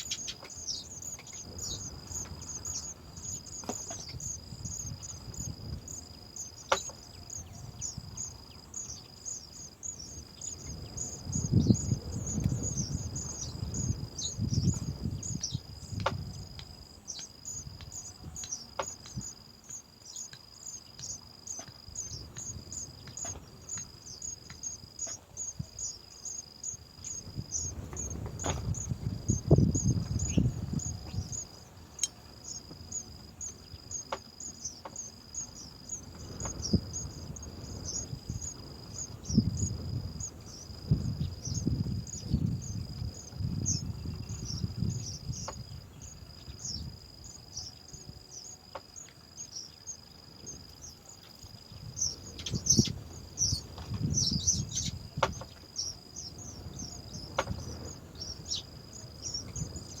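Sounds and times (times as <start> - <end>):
high-pitched insect trill: 0.0 - 60.0.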